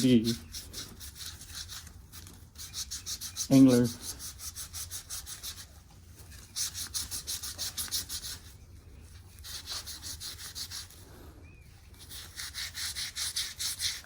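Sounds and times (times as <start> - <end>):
bark rubbing on antler: 0.0 - 11.1, 11.8 - 14.0.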